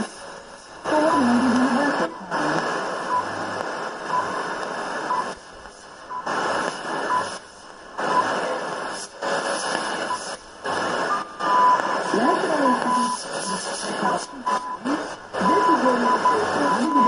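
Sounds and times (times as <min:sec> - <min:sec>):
faint radio time ticks: 0:00.0 - 0:17.0
radio static: 0:00.0 - 0:17.0.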